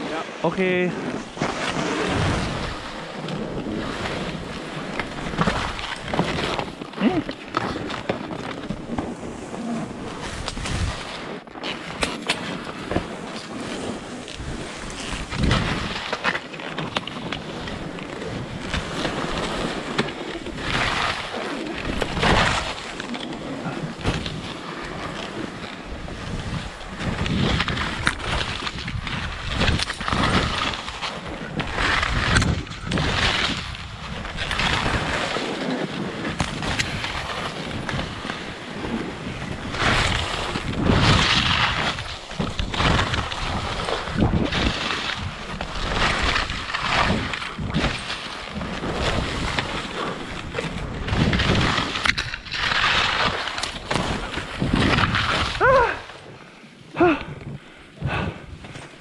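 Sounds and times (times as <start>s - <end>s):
wind rushing over microphone: 0.0s - 7.3s, 8.7s - 11.2s, 12.6s - 16.1s, 17.7s - 35.4s, 36.1s - 56.2s, 57.0s - 59.0s
skis scraping through snow: 0.0s - 56.9s, 57.5s - 59.0s.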